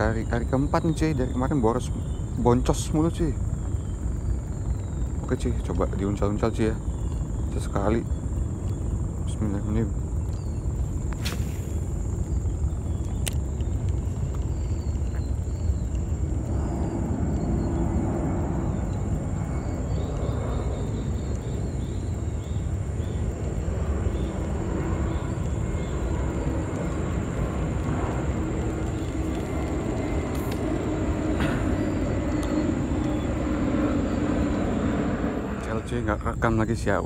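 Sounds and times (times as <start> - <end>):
droning hum: 0.0 - 37.0
low outdoor rumble: 0.0 - 37.0.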